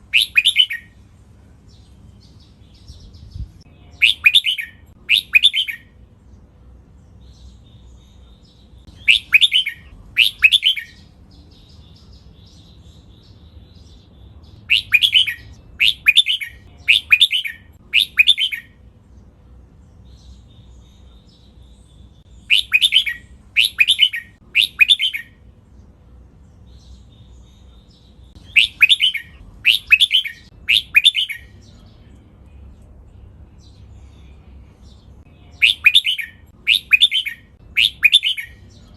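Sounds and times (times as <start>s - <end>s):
bulbul singing: 0.0s - 1.0s, 1.6s - 38.9s.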